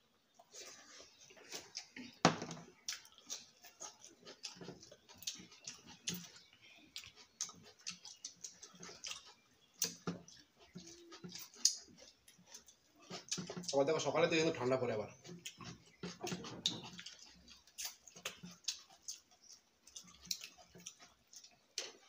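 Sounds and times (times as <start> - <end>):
wet chewing: 0.3 - 22.0.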